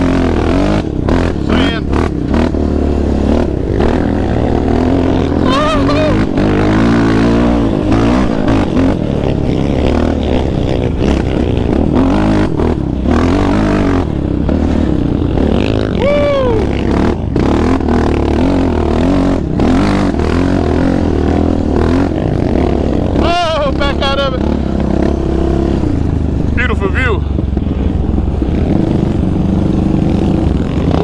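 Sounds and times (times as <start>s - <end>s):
quad engine revving: 0.0s - 31.0s.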